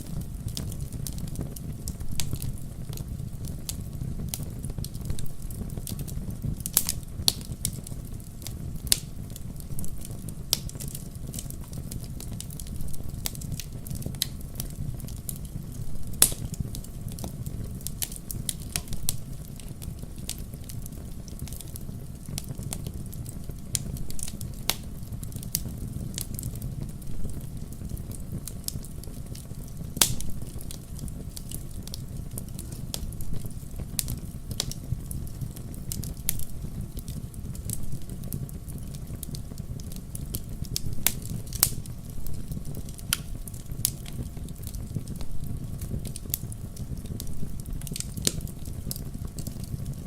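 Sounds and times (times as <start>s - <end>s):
fire crackling and popping: 0.0s - 50.0s
fireplace fire rumbling: 0.0s - 50.0s.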